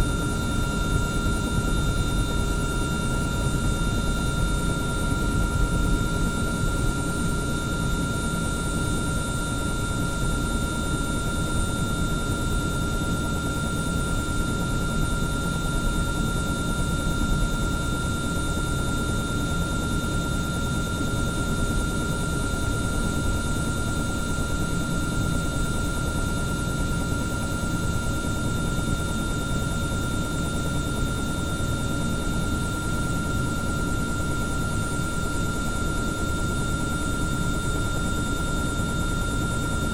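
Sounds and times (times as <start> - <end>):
helicopter whine and rumble: 0.0 - 39.9.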